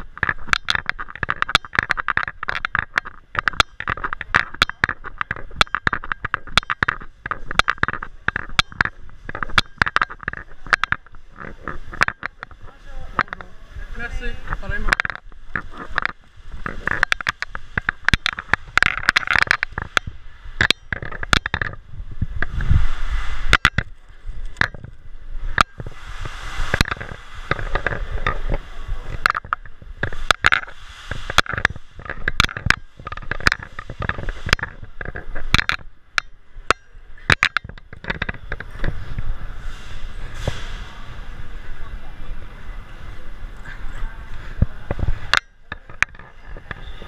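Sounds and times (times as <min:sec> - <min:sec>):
rustling: 0:00.0 - 0:47.0.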